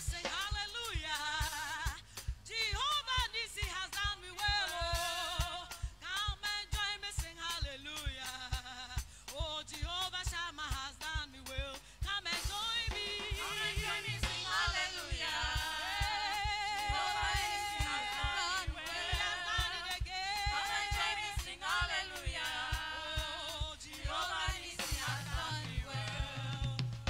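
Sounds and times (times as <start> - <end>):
band with steady drum beat: 0.0 - 27.0
voices singing gospel: 0.0 - 27.0.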